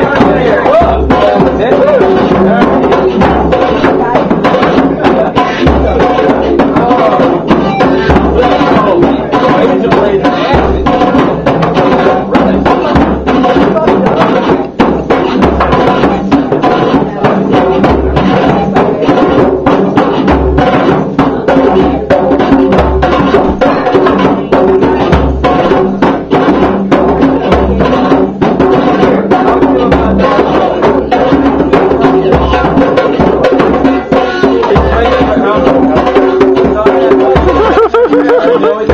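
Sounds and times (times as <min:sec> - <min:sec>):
hand drums playing: 0:00.0 - 0:38.9.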